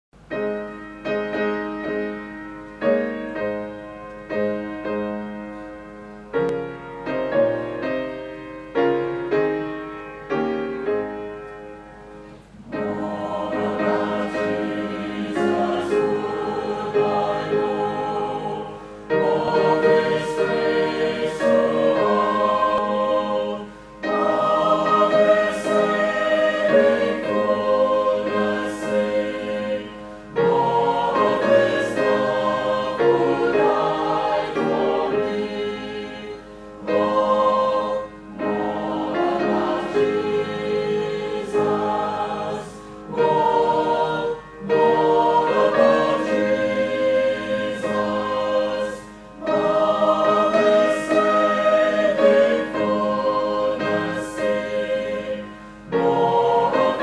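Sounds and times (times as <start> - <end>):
piano notes: 0.2 - 57.0
choir singing a hymn: 0.3 - 57.0.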